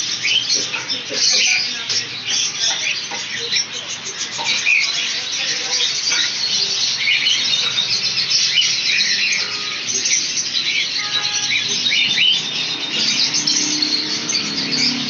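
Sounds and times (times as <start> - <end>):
small parrots chirping and squeaking: 0.0 - 15.0.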